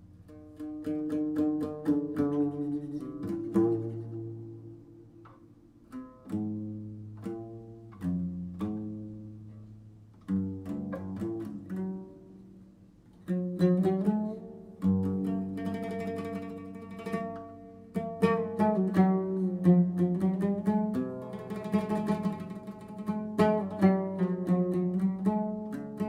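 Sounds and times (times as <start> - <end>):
plucked string notes: 0.0 - 26.0.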